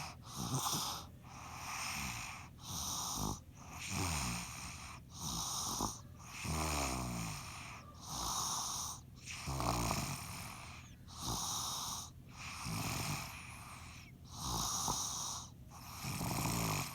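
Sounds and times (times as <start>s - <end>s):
loud rattling snoring: 0.0s - 16.9s.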